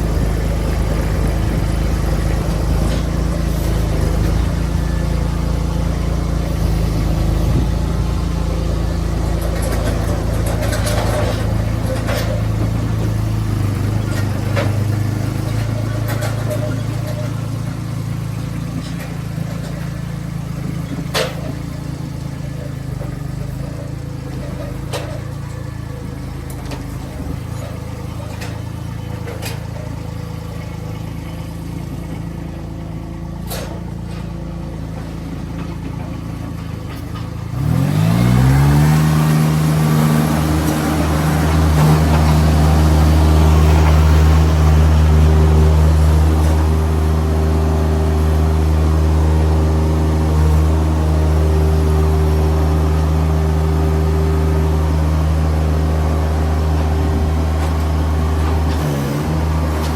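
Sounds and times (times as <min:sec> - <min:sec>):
engine idling and revving: 0:00.0 - 0:59.9.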